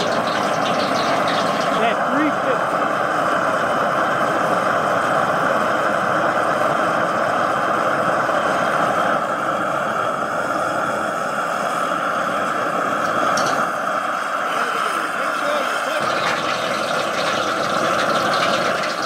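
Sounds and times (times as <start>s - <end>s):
gas burner flame rushing: 0.0s - 19.0s.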